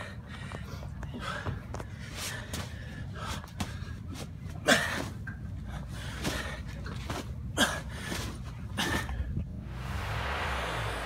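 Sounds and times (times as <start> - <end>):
man breathing hard: 0.0 - 9.5.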